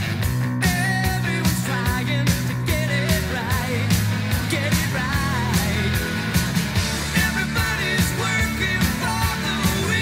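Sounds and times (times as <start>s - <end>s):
steady drum beat: 0.0s - 10.0s
person singing: 0.6s - 6.3s, 7.0s - 10.0s.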